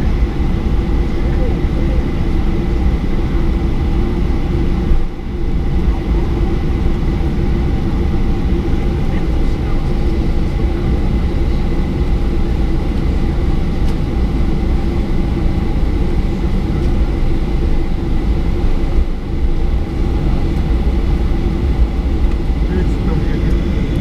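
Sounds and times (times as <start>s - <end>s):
faint high engine whine: 0.0s - 24.0s
jet engines rumbling: 0.0s - 24.0s.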